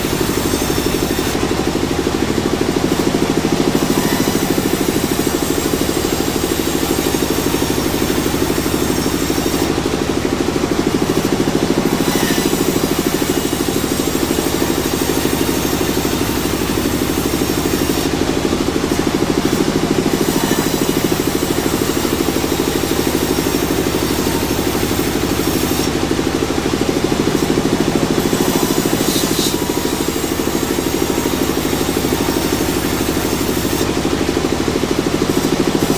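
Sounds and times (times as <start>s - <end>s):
sawmill machinery droning: 0.0s - 35.9s.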